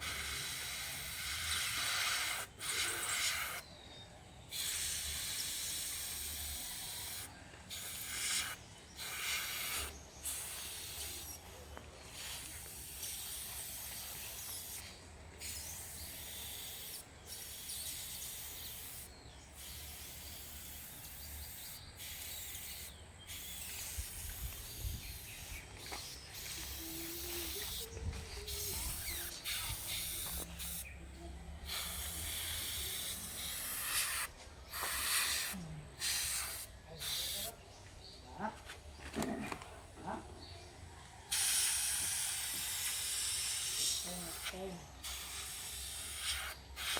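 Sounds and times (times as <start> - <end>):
airbrush hissing: 0.0 - 3.6, 4.5 - 37.6, 41.3 - 46.9.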